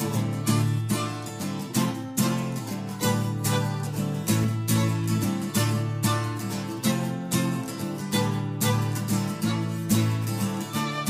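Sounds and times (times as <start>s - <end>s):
acoustic string band playing: 0.0s - 11.0s
strummed acoustic guitar: 0.0s - 11.0s.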